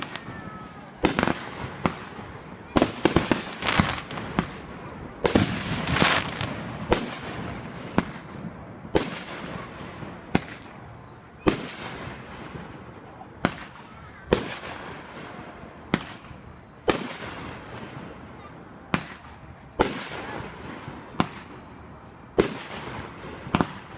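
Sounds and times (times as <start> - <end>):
fireworks bangs with echo: 0.0 - 23.9
fireworks crackling: 0.0 - 23.9.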